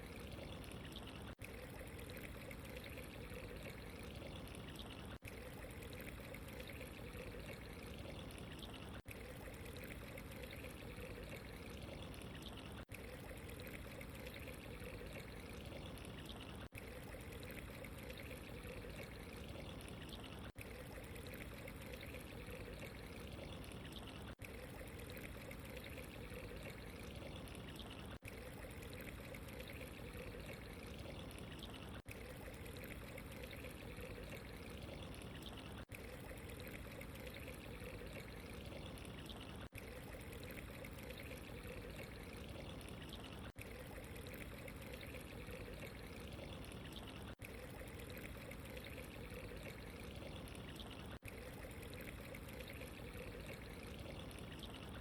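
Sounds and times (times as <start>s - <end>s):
flowing trickling water: 0.0s - 55.0s.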